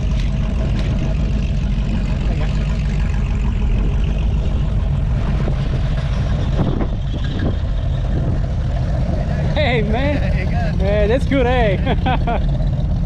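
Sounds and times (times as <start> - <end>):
car engines rumbling: 0.0 - 13.0.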